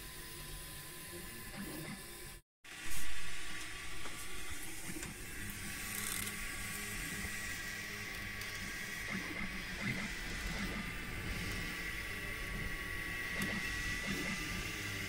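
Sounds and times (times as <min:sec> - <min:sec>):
stepper motors humming: 0:00.0 - 0:15.0.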